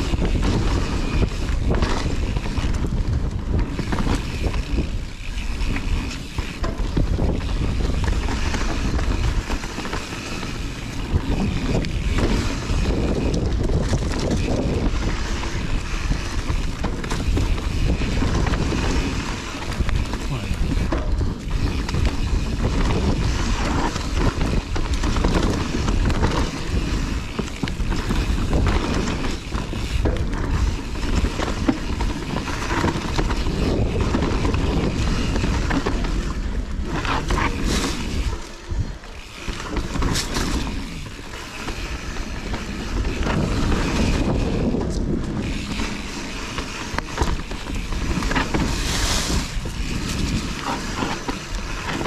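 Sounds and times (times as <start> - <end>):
bike rattling over bumps: 0.0 - 52.0
tyres rolling over dirt: 0.0 - 52.0
wind on microphone: 0.0 - 52.0.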